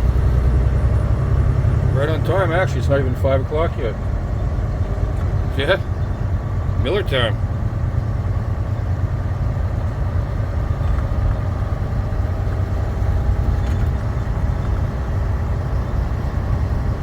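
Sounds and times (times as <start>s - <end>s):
heavy truck engine rumble: 0.0s - 17.0s
road noise: 0.0s - 17.0s.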